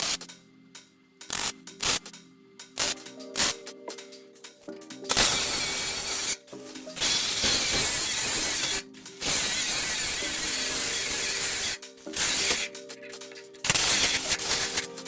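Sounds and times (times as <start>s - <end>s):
welder crackling: 0.0s - 15.0s.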